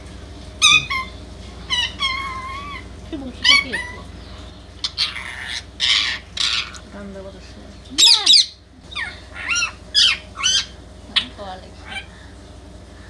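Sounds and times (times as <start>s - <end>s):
parakeet calling: 0.0s - 13.0s
parakeet harsh squawks: 0.6s - 6.9s, 8.0s - 13.0s.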